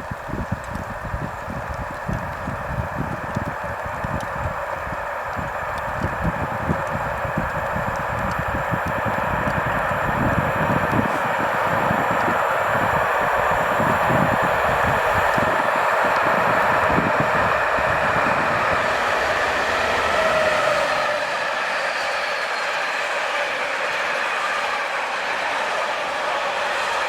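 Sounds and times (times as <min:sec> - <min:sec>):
train wheel and rail noise: 0:00.0 - 0:27.0
faint whining tone: 0:04.1 - 0:27.0.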